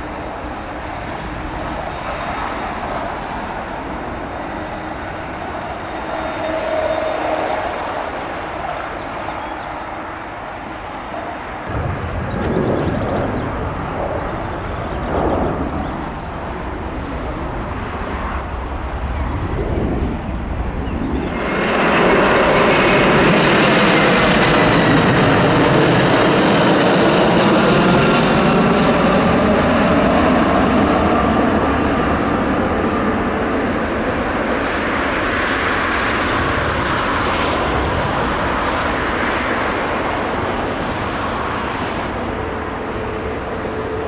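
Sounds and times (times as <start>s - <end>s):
jet airliner passing overhead: 0.0s - 44.0s.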